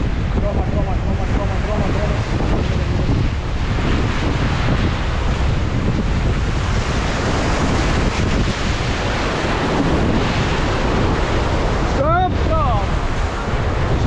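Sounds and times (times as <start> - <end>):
whitewater roaring: 0.0 - 14.0
wind buffeting microphone: 0.0 - 14.0.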